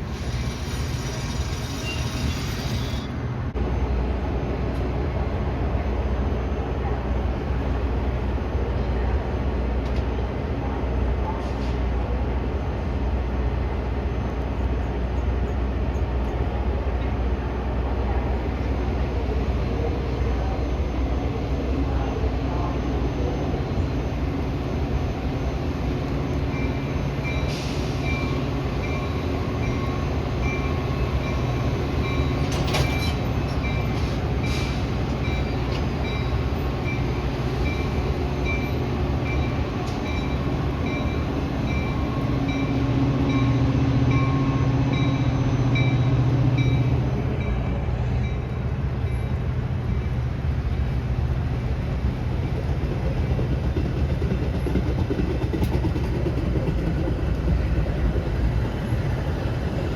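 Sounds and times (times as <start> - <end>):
diesel train rumble: 0.0 - 59.9.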